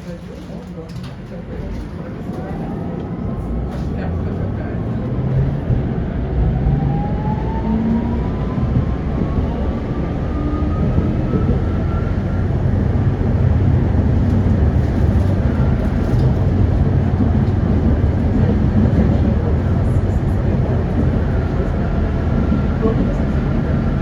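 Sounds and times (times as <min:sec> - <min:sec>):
tram rumbling on rails: 0:00.0 - 0:24.0.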